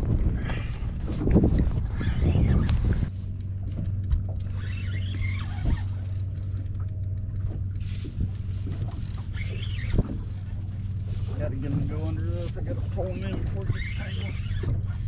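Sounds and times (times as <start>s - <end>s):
light wind: 0.0s - 15.0s
outboard motor idling: 2.8s - 15.0s.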